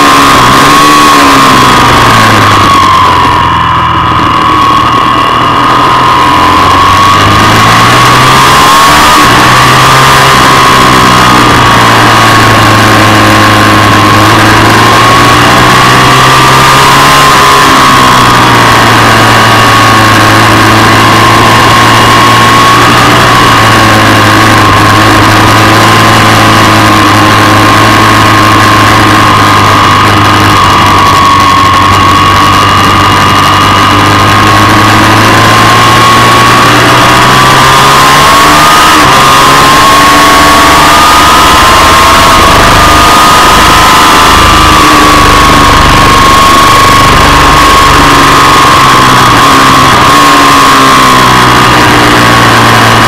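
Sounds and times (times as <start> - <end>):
motorcycle engine running hard: 0.0 - 53.0.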